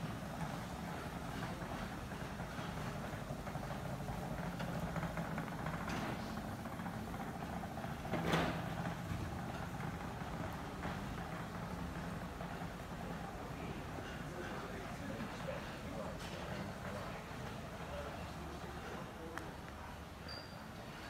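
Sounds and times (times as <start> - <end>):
exhibition hall background hum: 0.0 - 21.0.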